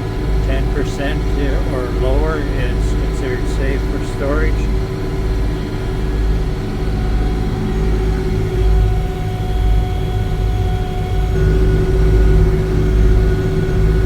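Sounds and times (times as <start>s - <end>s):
combine harvester engine rumble: 0.0s - 14.0s
machinery whine: 0.0s - 14.0s.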